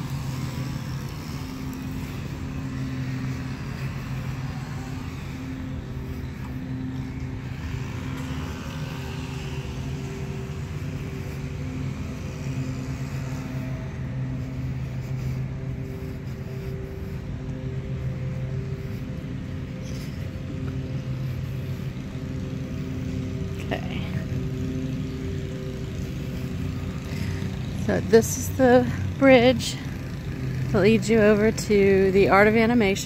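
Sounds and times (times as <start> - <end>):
lawnmower engine running: 0.0 - 32.6.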